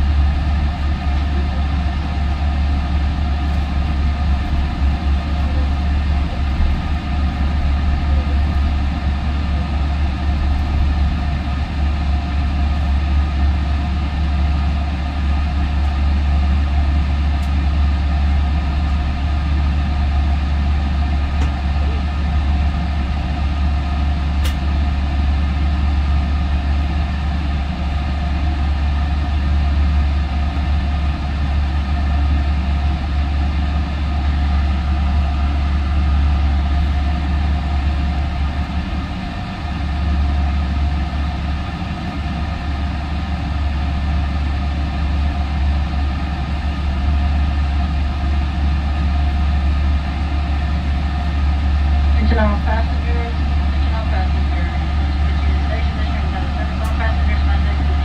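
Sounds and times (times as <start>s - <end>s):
train rumble from inside car: 0.0s - 58.0s.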